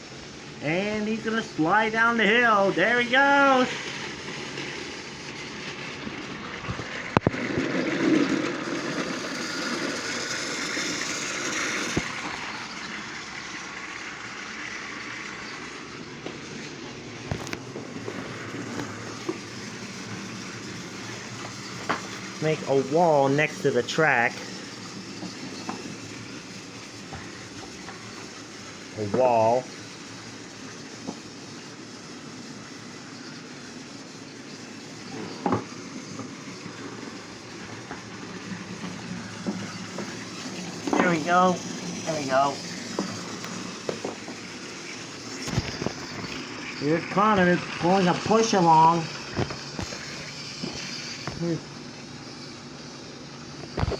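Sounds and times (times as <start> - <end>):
toy train motors whirring: 0.0 - 53.9.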